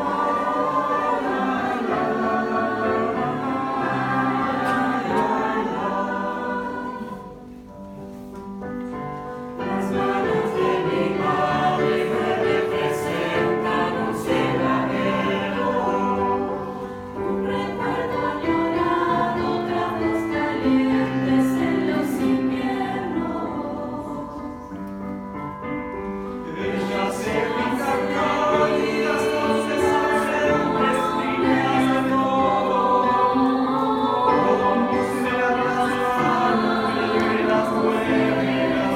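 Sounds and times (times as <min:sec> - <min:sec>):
youth choir singing: 0:00.0 - 0:07.7, 0:09.6 - 0:25.0, 0:26.4 - 0:38.9.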